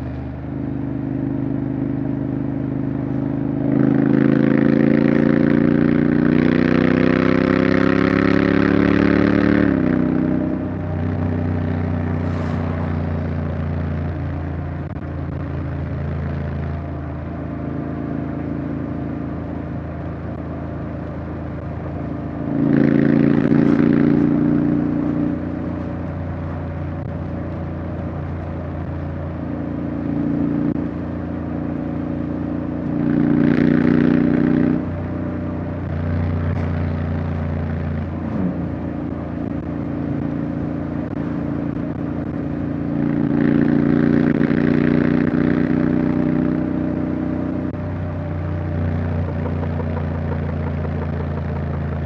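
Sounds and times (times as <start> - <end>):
motorcycle engine cruising: 0.0 - 52.0.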